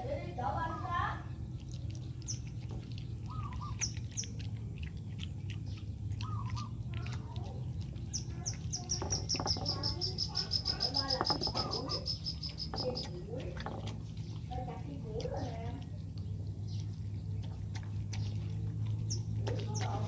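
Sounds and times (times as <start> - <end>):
small bird chirping: 0.8 - 20.0.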